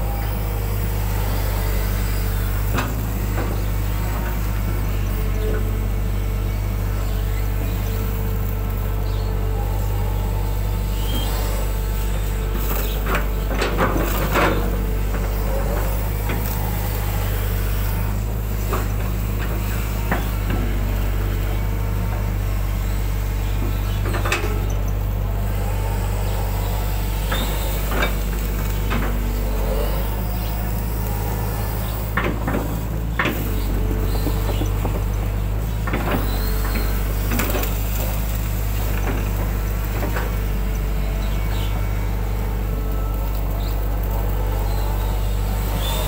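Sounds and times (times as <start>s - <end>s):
excavator diesel engine: 0.0s - 46.0s.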